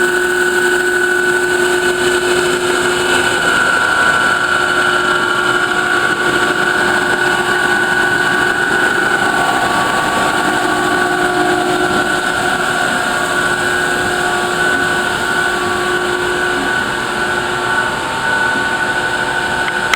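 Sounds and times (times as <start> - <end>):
roll grinder machine drone: 0.0 - 19.9.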